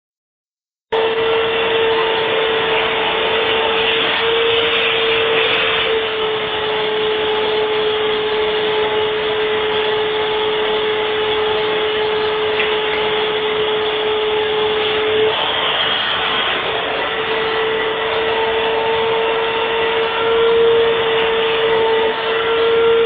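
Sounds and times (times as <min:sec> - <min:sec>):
vacuum cleaner air rush: 0:00.9 - 0:23.0
vacuum cleaner whine: 0:00.9 - 0:23.0.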